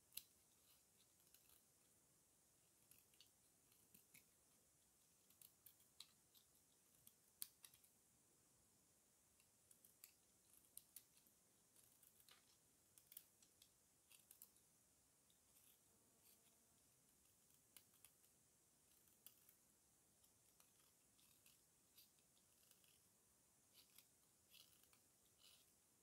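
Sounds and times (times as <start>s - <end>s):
knife shaving soap crackles: 0.0s - 1.8s, 2.7s - 7.9s, 9.3s - 14.6s, 15.3s - 18.3s, 20.2s - 26.0s.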